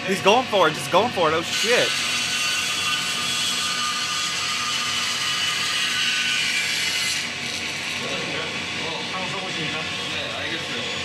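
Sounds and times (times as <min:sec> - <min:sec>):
band saw cutting wood: 0:00.0 - 0:11.0.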